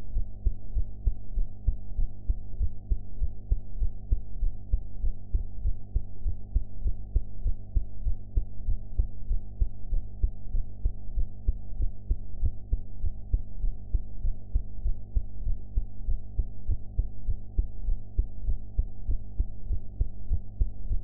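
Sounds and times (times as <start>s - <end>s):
steady low hum: 0.0s - 21.0s
heart beating: 0.1s - 21.0s.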